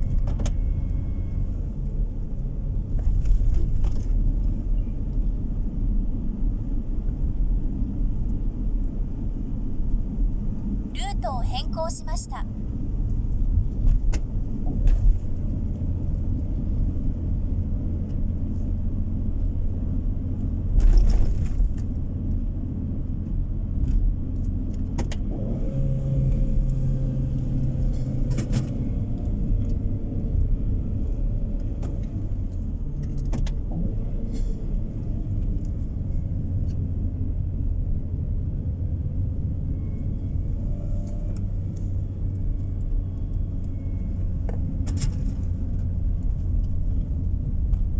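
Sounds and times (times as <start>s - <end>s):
engine and tyre rumble: 0.0s - 47.9s.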